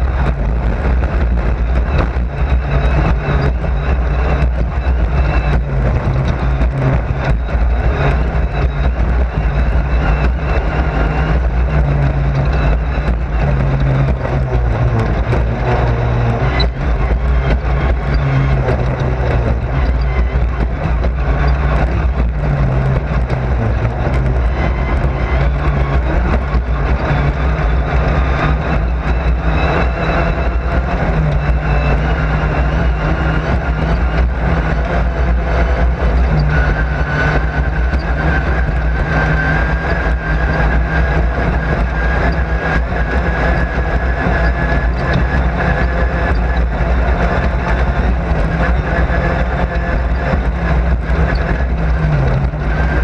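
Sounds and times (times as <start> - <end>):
race car engine running hard: 0.0 - 53.0
road and wind noise: 0.0 - 53.0.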